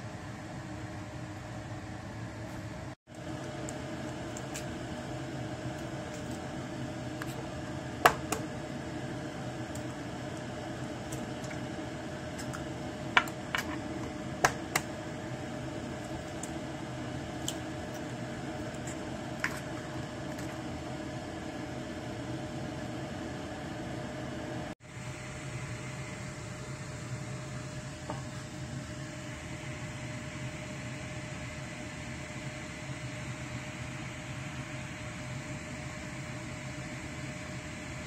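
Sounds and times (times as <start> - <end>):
kitchen hum: 0.0 - 38.0.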